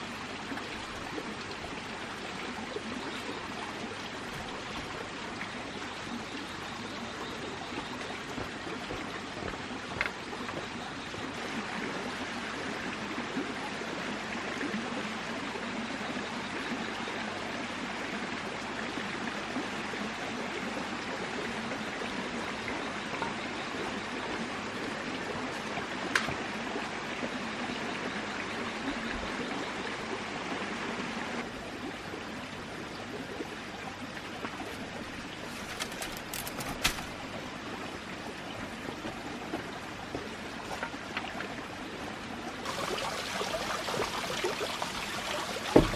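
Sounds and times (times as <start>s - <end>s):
flowing water rushing: 0.0s - 16.5s, 17.2s - 45.9s.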